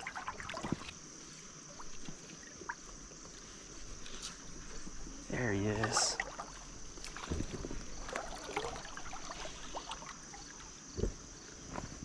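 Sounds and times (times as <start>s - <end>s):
faint water splashing: 0.0s - 11.8s.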